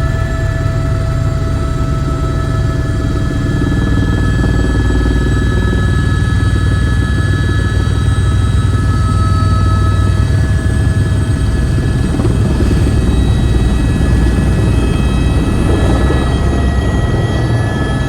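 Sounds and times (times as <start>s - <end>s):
helicopter running: 0.0s - 18.0s.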